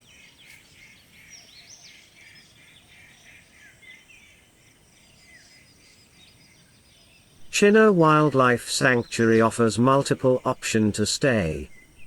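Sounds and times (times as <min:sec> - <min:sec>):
chorus of wild birds: 0:00.0 - 0:12.0.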